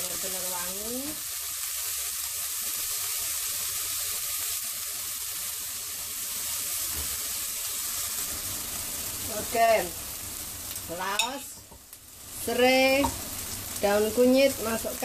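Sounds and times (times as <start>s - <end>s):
spice paste sizzling in wok: 0.0s - 15.0s.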